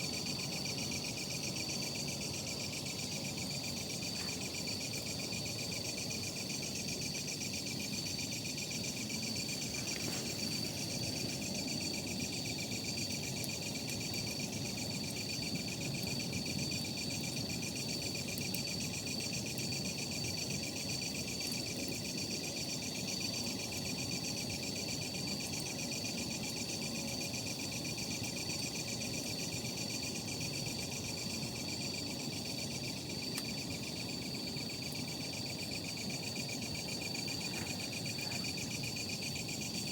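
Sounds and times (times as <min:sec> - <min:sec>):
campfire burning: 0:00.0 - 0:39.9
crickets trilling: 0:00.0 - 0:39.9.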